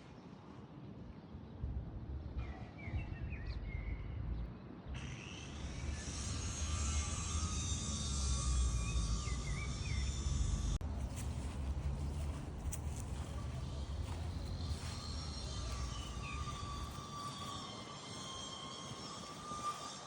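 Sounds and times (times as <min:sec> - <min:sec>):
low outdoor rumble: 0:01.1 - 0:05.0, 0:05.6 - 0:18.5.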